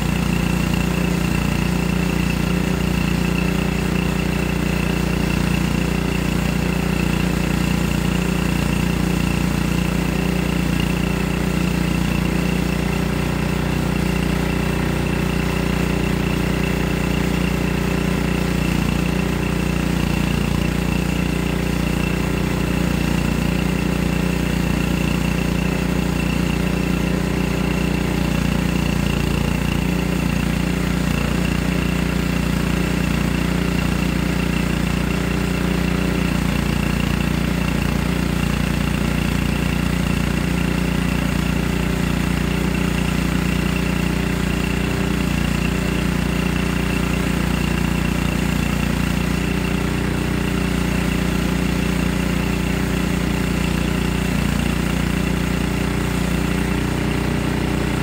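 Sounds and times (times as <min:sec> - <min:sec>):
band saw cutting log: 0:00.0 - 0:58.0
sawmill engine running: 0:00.0 - 0:58.0.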